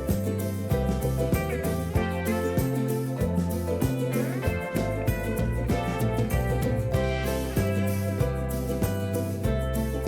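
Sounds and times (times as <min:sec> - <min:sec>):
plucked guitar: 0:00.0 - 0:10.0
steady bass line: 0:00.0 - 0:10.0.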